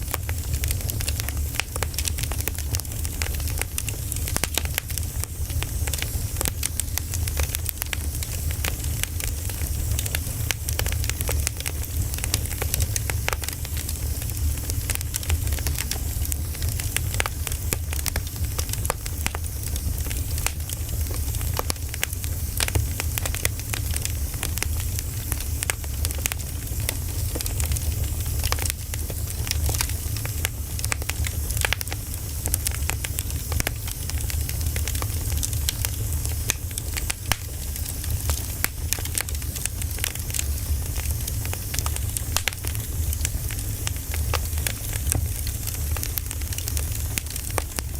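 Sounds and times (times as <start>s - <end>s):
firewood crackling and popping: 0.0s - 47.9s.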